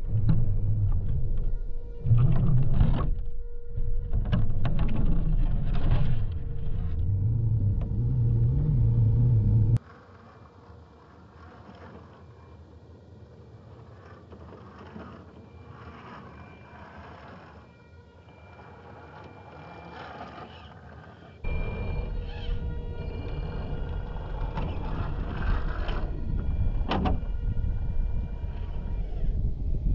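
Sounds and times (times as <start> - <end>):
electric motor and drivetrain whining: 0.0 - 29.9.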